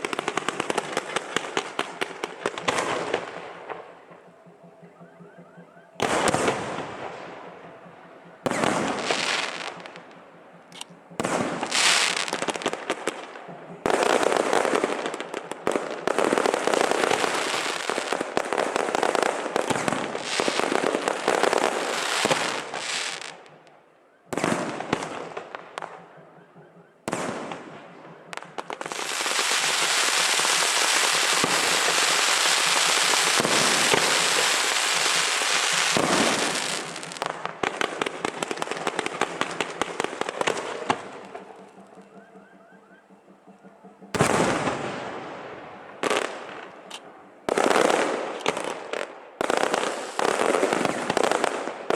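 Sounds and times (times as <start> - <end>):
firecrackers crackling: 0.0 - 51.9
firework bangs: 0.0 - 51.9.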